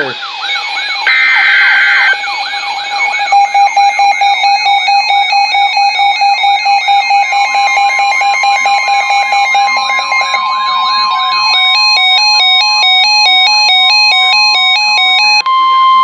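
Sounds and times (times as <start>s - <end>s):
steady tone: 0.0s - 13.9s
stepping beeps: 0.0s - 15.4s
rising siren-like whoop: 0.0s - 15.8s
steady single-pitch alarm tone: 0.0s - 16.0s.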